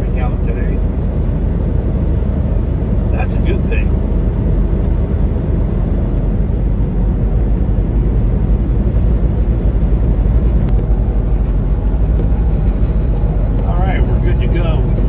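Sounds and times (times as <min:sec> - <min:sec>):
road noise: 0:00.0 - 0:15.0
truck diesel engine rumble: 0:00.0 - 0:15.0.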